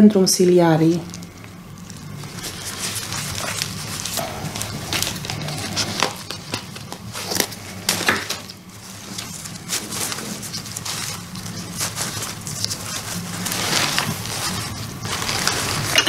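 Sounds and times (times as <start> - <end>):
low steady hum: 0.0 - 16.0
paper crinkling and rustling: 0.9 - 16.0.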